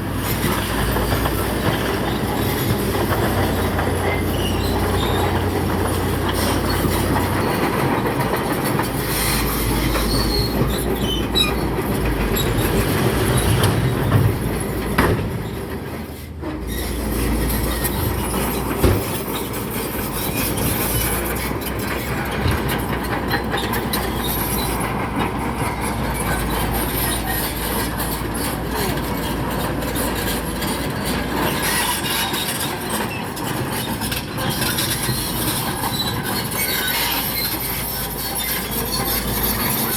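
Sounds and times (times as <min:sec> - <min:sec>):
bulldozer diesel engine and tracks: 0:00.0 - 0:39.9
metal tracks clanking: 0:00.0 - 0:39.9.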